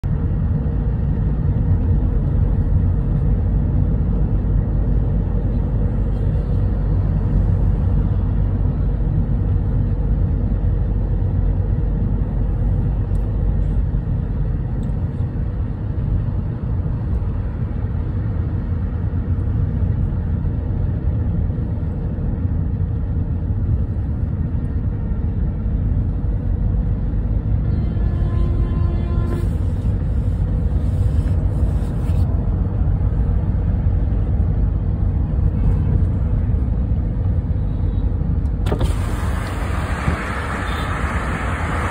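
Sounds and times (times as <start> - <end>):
car driving heard from inside: 0.0 - 41.9.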